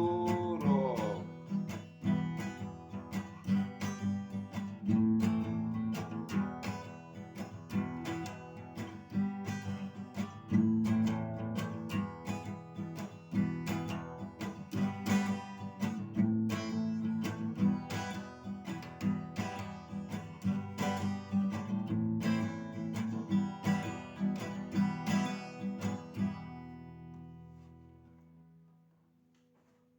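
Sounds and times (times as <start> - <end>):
acoustic guitar strumming chords: 0.0 - 28.6.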